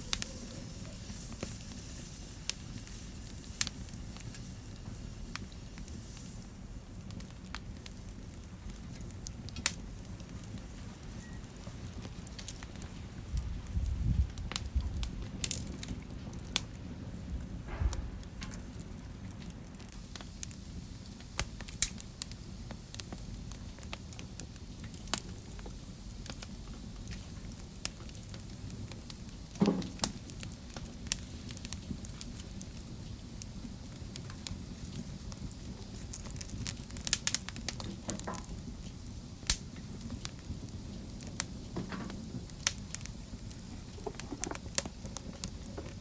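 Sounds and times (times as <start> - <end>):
low rumble of flame: 0.0 - 46.0
wood fire crackling: 0.0 - 46.0.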